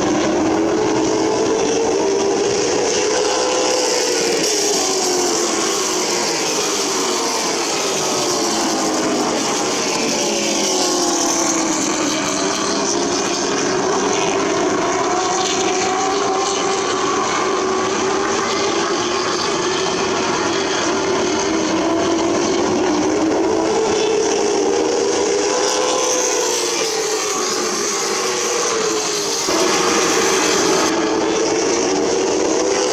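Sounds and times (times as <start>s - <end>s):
racing car engines droning: 0.0s - 32.9s.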